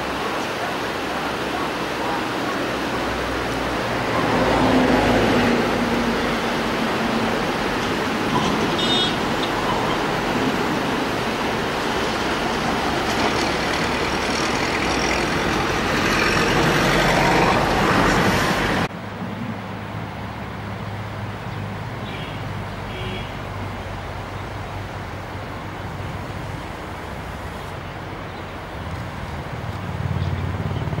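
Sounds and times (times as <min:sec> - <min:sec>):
river rapids rushing: 0:00.0 - 0:31.0.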